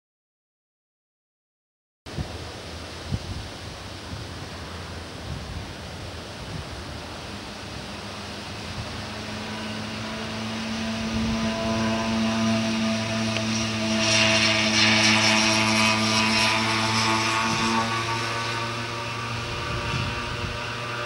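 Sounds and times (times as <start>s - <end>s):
wind buffeting microphone: 2.1s - 21.0s
train humming: 2.2s - 21.0s.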